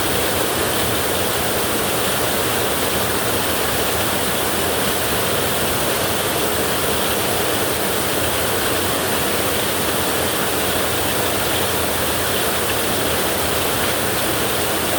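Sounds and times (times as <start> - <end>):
heavy rain on a tin roof: 0.0 - 14.9.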